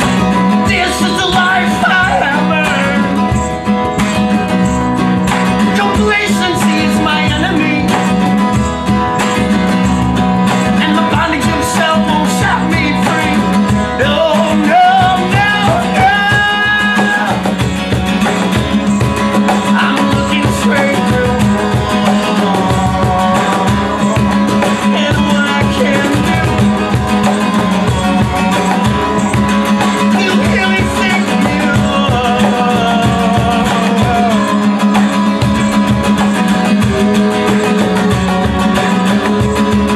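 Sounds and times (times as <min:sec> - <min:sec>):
live guitar rock music: 0:00.0 - 0:39.9.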